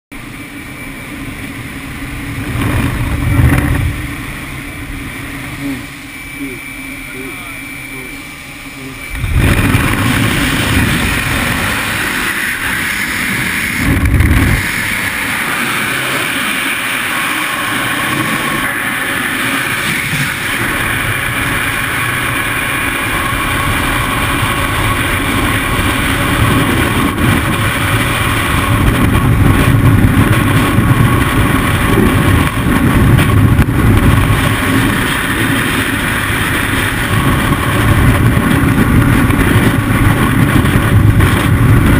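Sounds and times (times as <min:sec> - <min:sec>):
airplane noise: 0:00.1 - 0:41.9
wind buffeting microphone: 0:01.1 - 0:06.5, 0:08.8 - 0:41.9.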